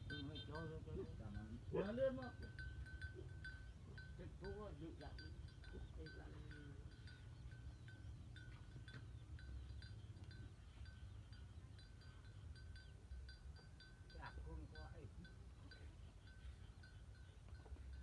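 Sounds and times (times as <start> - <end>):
cattle bells clinking: 0.0 - 18.0.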